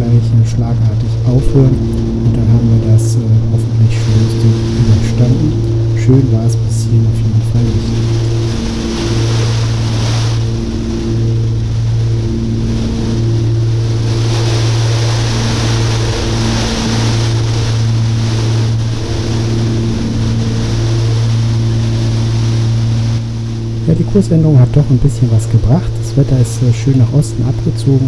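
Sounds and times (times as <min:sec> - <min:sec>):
twin piston engines droning: 0:00.0 - 0:28.0.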